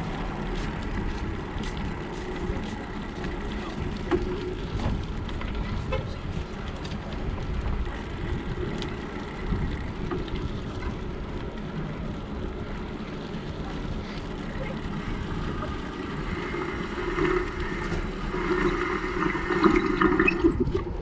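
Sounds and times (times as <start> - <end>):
tyre and road noise: 0.0 - 21.0
wind buffeting microphone: 0.0 - 21.0.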